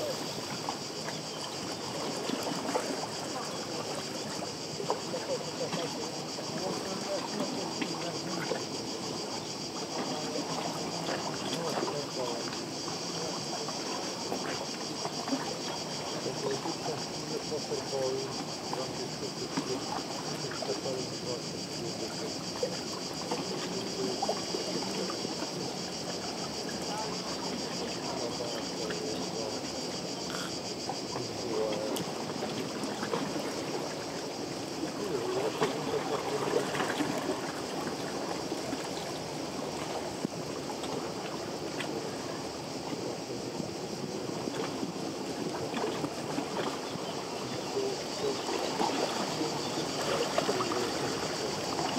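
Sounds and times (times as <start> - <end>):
faint water splashes: 0.0 - 51.9
high-pitched insect chorus: 0.0 - 51.9
lake waves lapping: 0.0 - 51.9.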